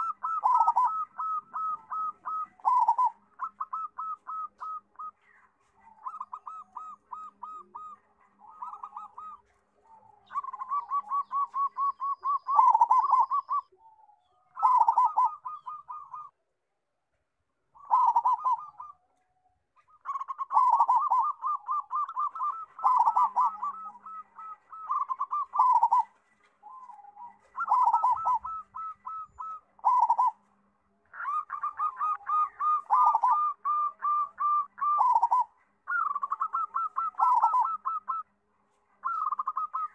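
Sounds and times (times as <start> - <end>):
zebra dove cooing: 0.0 - 16.4, 17.8 - 19.2, 19.8 - 38.4, 39.0 - 39.9.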